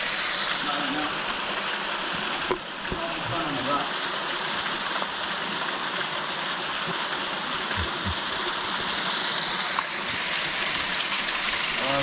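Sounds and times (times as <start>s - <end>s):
water rushing over waterfall: 0.0s - 12.0s.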